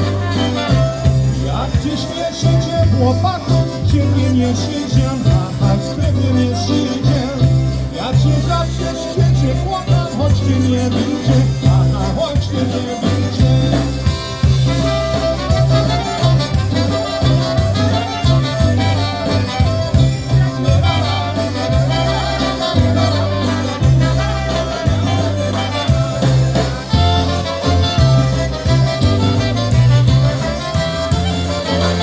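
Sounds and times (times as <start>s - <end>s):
bass stepping on steady beat: 0.0s - 32.0s
polka band playing: 0.0s - 32.0s.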